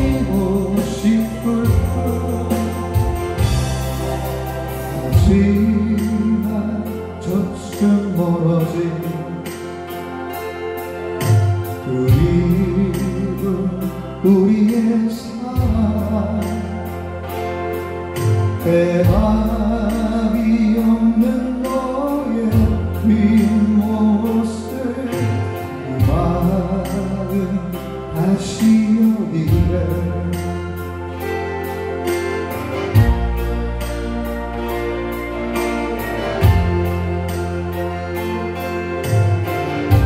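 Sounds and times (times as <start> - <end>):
acoustic guitar: 0.0 - 40.0
deep bass notes: 0.0 - 40.0
man singing a ballad: 0.0 - 40.0.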